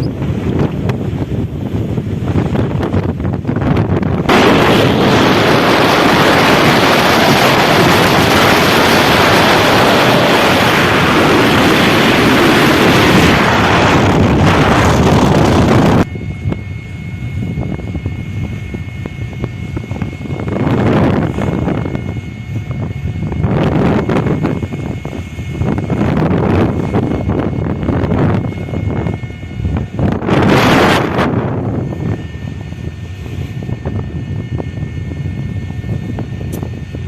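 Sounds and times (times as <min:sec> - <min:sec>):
strong wind buffeting microphone: 0:00.0 - 0:37.0.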